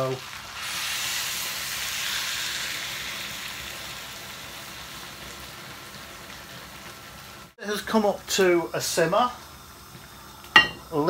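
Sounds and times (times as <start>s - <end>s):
pan sizzling and hissing: 0.0s - 11.0s.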